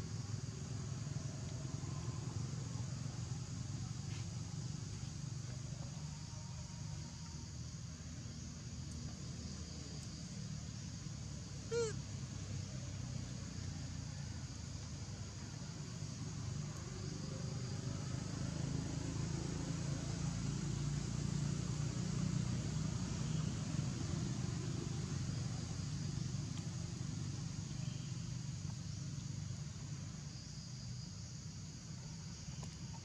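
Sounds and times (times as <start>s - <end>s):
faint high insect drone: 0.0s - 33.0s
vehicle engine rumble: 0.0s - 33.0s.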